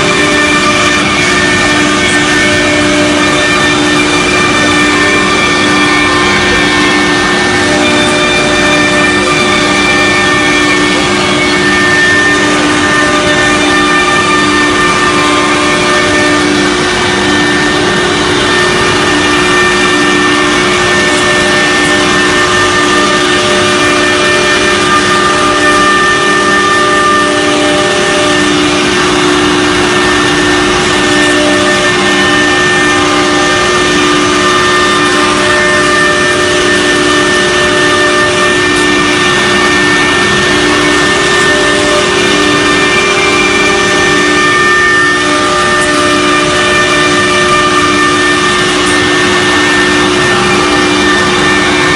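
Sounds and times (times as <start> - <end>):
spindle high whine: 0.0 - 51.9.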